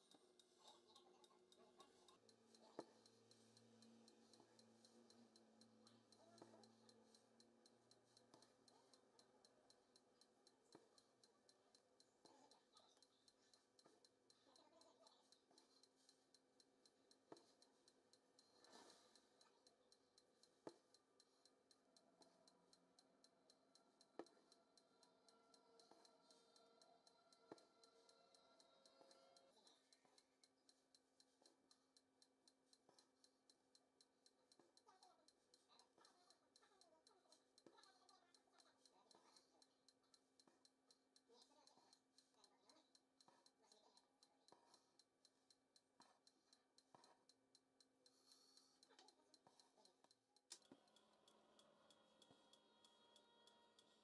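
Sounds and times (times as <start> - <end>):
faint steady ticking: 0.0 - 54.0.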